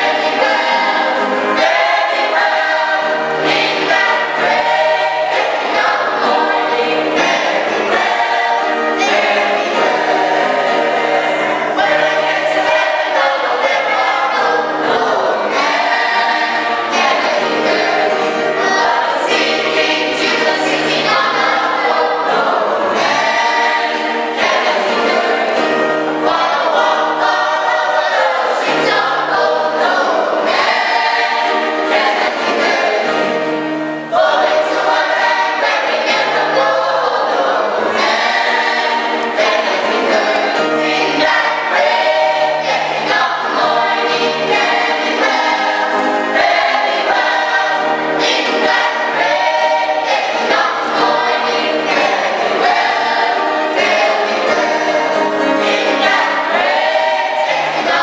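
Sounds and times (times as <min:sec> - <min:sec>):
choir singing gospel: 0:00.0 - 0:58.0.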